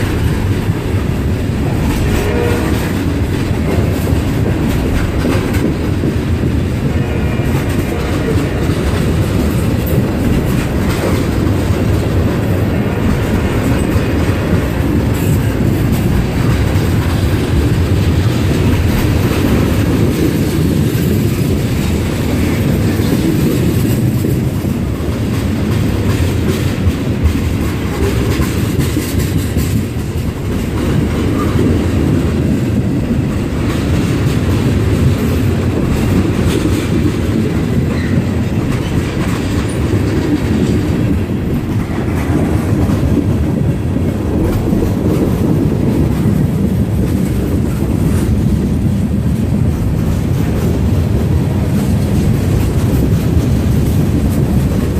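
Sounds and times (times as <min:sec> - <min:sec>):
train cars rumbling past: 0:00.0 - 0:54.9
wheels clacking over rail joints: 0:00.0 - 0:54.9.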